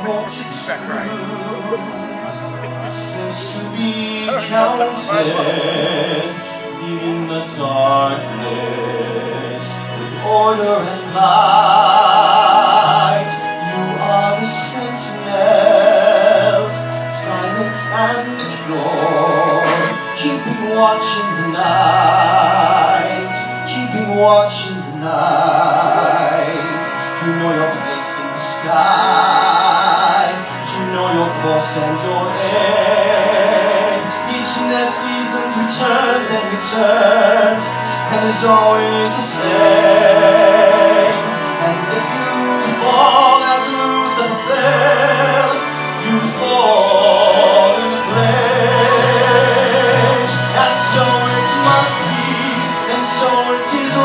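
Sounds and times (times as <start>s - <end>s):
instrumental accompaniment: 0.0s - 54.0s
man singing a ballad: 0.0s - 54.0s.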